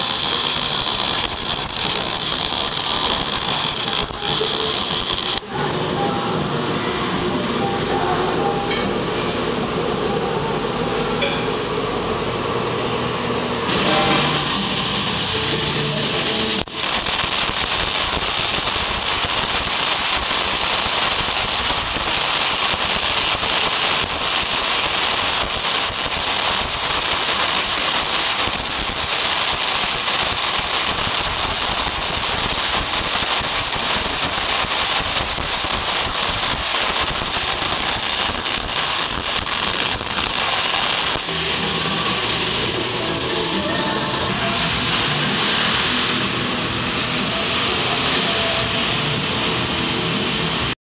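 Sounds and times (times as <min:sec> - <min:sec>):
welding arc crackling hiss: 0:00.0 - 0:05.7, 0:13.7 - 0:50.8.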